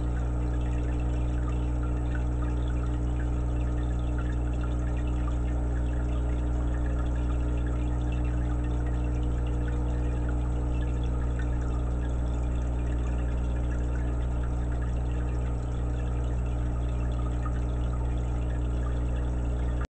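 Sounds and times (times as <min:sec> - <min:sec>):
aquarium air bubbles fizzing: 0:00.0 - 0:19.9
low hum: 0:00.0 - 0:19.9.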